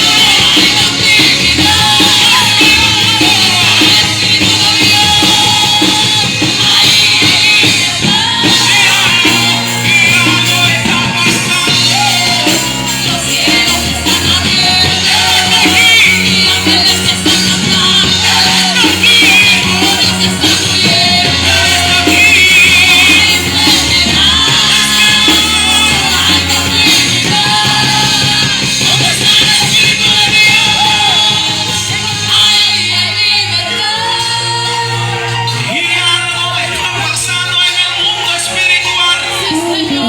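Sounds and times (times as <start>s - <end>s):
drum kit beat: 0.0s - 40.0s
held bass notes: 0.0s - 40.0s
voices singing: 0.0s - 40.0s.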